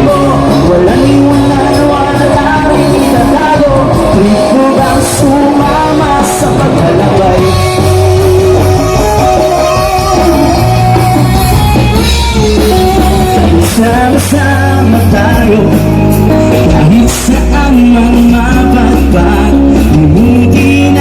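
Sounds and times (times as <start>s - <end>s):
live rock band music: 0.0s - 21.0s
person singing: 0.0s - 21.0s.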